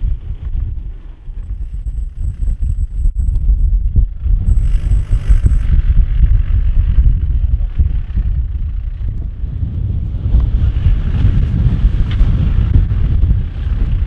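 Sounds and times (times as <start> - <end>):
vehicle engine crawling: 0.0 - 14.0
wind buffeting microphone: 0.0 - 14.0.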